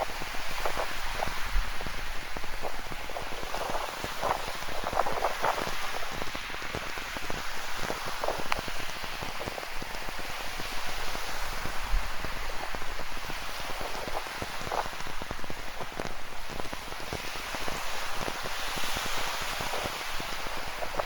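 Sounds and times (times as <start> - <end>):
ocean surf: 0.0 - 21.0.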